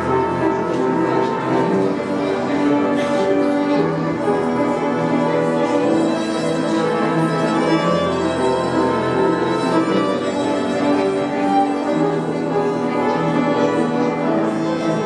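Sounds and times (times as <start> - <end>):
upright piano: 0.0 - 15.0
violin melody: 0.0 - 15.0.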